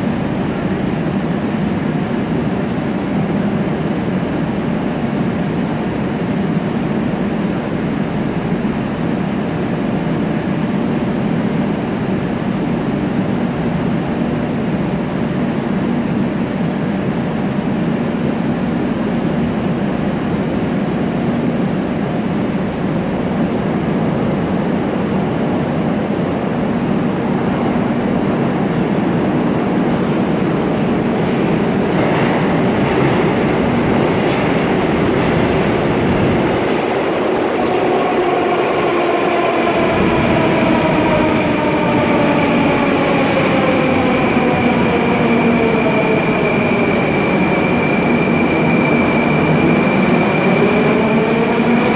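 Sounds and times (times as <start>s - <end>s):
loud station rumble and hum: 0.0s - 51.9s.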